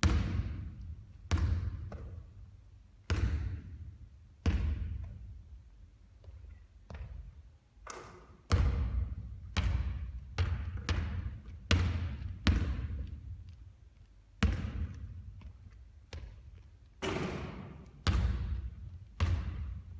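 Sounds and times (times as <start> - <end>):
basketballs bouncing on court: 0.0 - 5.4, 6.2 - 13.6, 14.4 - 19.9.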